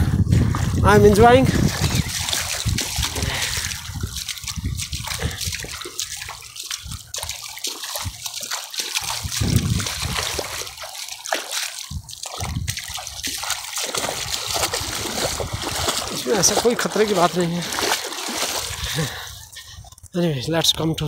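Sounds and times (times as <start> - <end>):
wading footsteps splashing: 0.0 - 20.0
water rippling over stones: 0.9 - 19.6.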